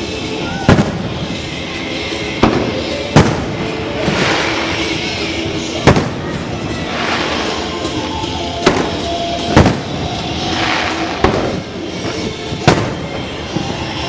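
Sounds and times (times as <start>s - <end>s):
background music: 0.0s - 14.0s
fireworks crackle: 0.0s - 14.0s
fireworks bangs: 0.2s - 14.0s.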